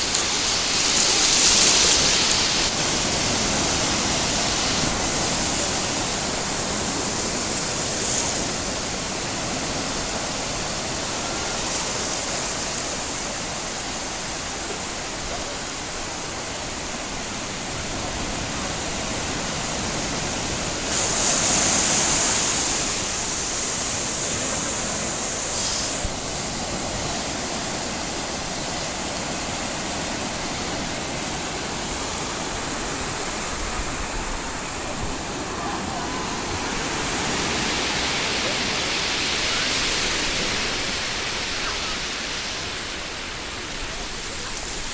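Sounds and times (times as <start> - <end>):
sea surf on a beach: 0.0 - 44.9.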